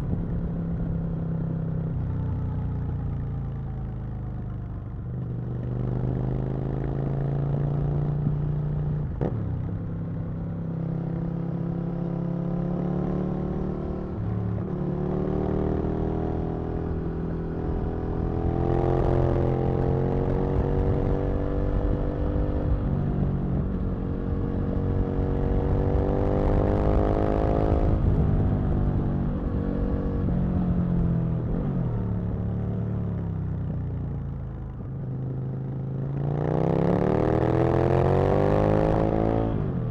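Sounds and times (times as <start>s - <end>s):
motorcycle engine accelerating through gears: 0.0s - 39.9s.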